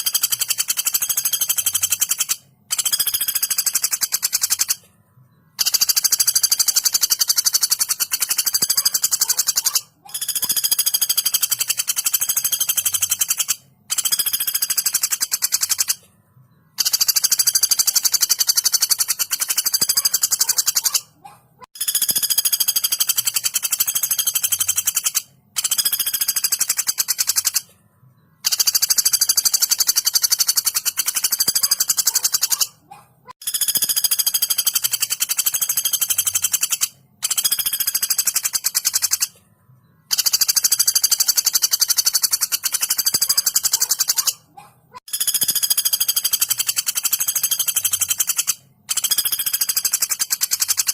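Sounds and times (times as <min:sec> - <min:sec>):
woodpecker rattling calls: 0:00.0 - 0:04.8, 0:05.5 - 0:16.1, 0:16.7 - 0:27.7, 0:28.4 - 0:39.4, 0:40.0 - 0:50.9.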